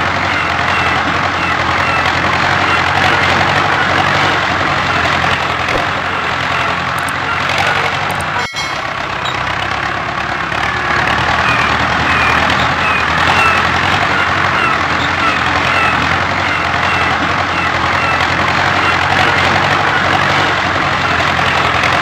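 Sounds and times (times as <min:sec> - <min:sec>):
heavy vehicle engine running: 0:00.0 - 0:22.0.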